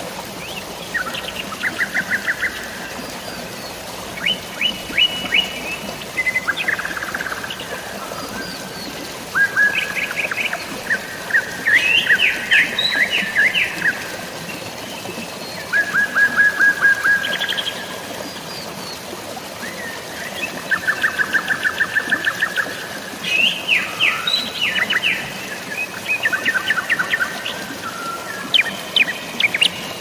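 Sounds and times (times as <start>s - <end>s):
running water hiss: 0.0s - 30.0s
songbirds singing: 0.3s - 19.0s, 19.6s - 30.0s.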